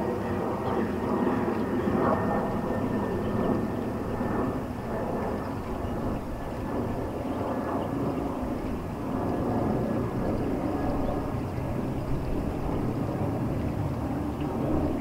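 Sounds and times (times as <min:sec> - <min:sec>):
distant engine rumble: 0:02.4 - 0:15.0.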